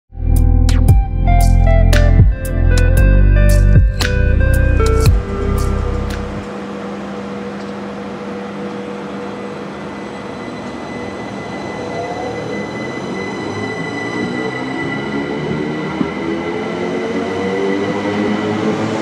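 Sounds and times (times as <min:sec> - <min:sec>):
electric train hum and whine: 0:01.0 - 0:19.0.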